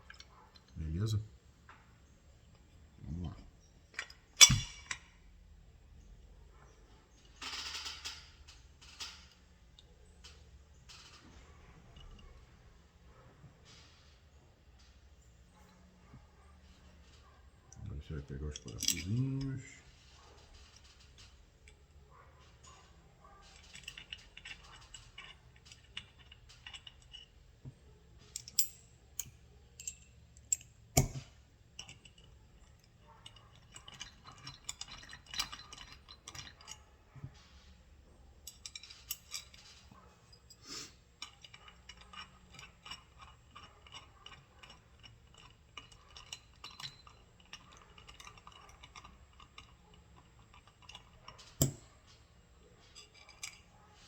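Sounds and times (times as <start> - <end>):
light metal clicks and clinks: 0.0 - 54.0.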